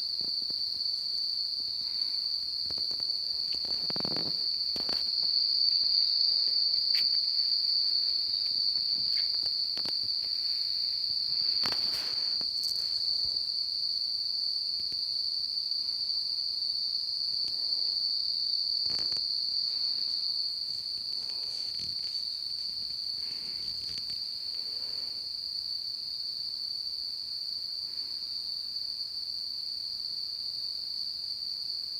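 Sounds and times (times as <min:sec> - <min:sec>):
high-pitched insect trill: 0:00.0 - 0:31.9.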